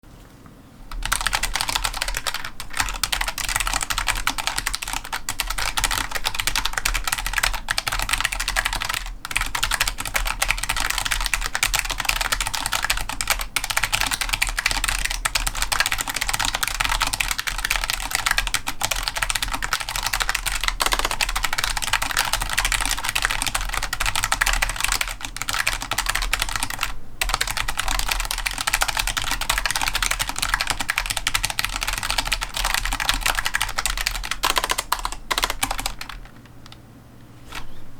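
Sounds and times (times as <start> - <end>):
mechanical keyboard typing: 0.9 - 36.8.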